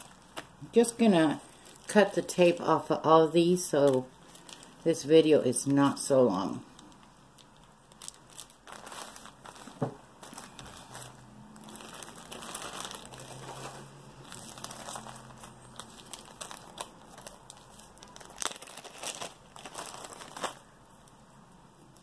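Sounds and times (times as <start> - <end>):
plastic bags and tape crinkling: 0.0 - 22.0.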